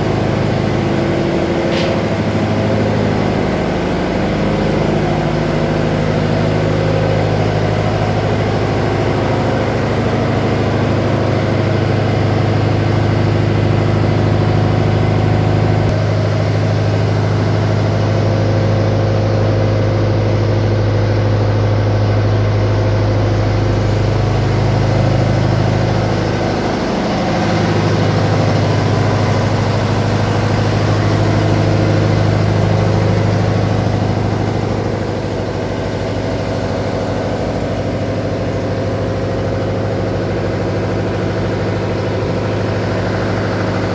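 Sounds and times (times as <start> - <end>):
ship engine machinery hum: 0.0 - 43.9.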